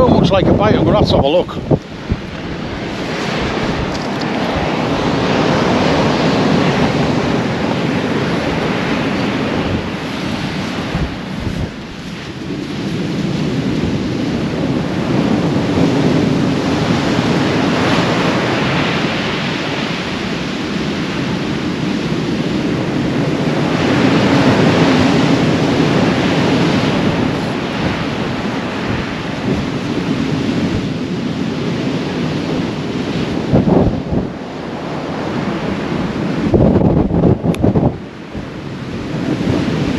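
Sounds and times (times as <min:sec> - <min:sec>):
heavy surf breaking on beach: 0:00.0 - 0:39.9
wind buffeting microphone: 0:00.0 - 0:39.9.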